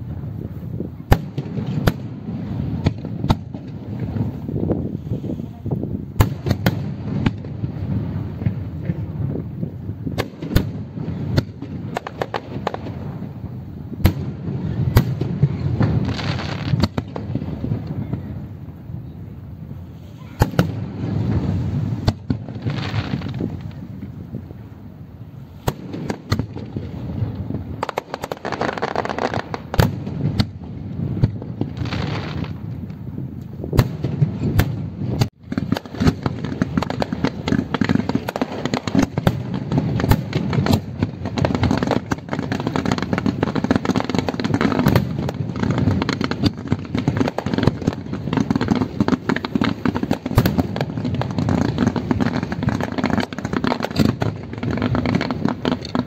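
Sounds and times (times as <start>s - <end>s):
fireworks bursting with sharp bangs: 0.0s - 56.0s
fireworks crackle and hiss: 0.0s - 56.0s.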